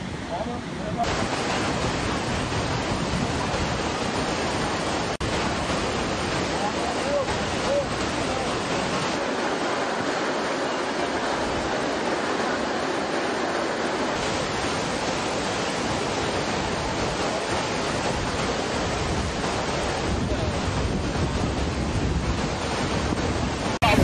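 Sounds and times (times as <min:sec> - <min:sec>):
waterfall and creek rushing: 0:00.0 - 0:24.0.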